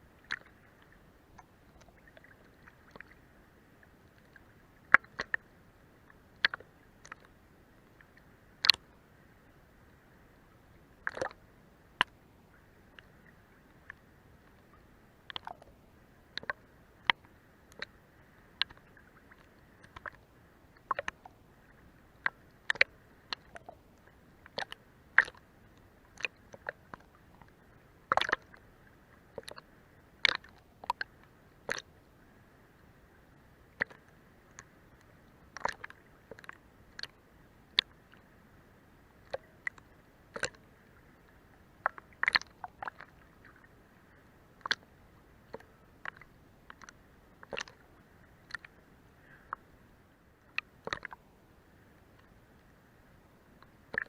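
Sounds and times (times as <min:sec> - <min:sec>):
faint steady water wash: 0:00.0 - 0:54.0
water lapping under boat hull: 0:00.0 - 0:54.0.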